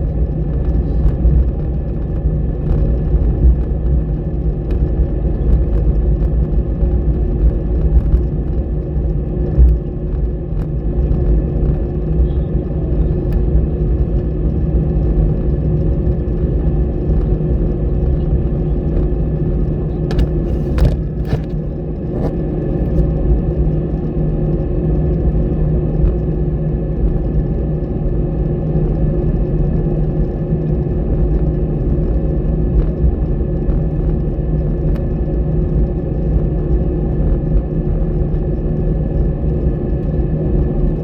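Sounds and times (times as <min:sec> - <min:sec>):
jet engine cabin rumble: 0:00.0 - 0:41.0.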